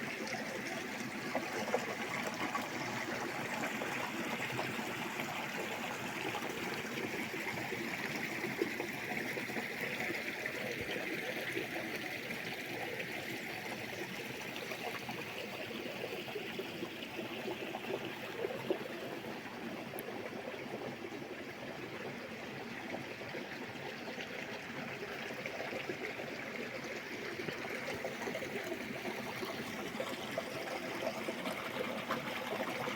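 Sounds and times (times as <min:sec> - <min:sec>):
stream water running: 0:00.0 - 0:32.9.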